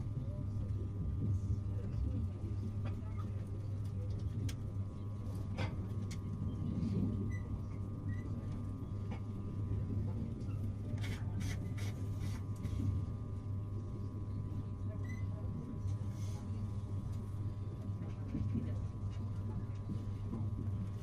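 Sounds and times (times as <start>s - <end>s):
faint constant whine: 0.0s - 21.0s
train carriage rumble and hum: 0.0s - 21.0s.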